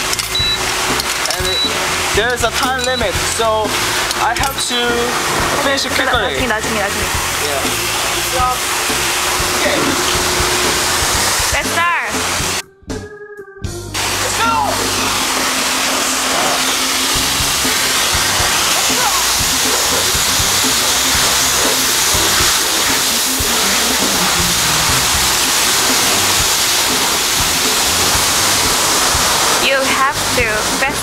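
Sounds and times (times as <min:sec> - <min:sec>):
pressure washer spray hissing: 0:00.0 - 0:12.6, 0:14.0 - 0:31.0
background music with bass: 0:00.0 - 0:31.0.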